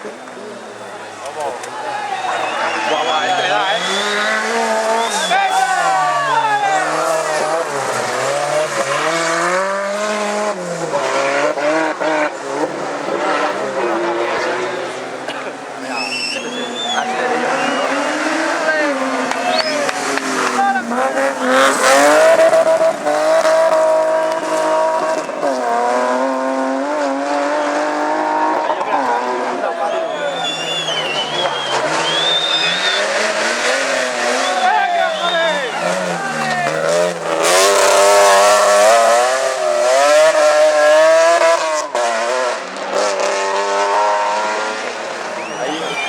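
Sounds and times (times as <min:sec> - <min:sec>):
rally car engine at full throttle: 0:00.0 - 0:46.0.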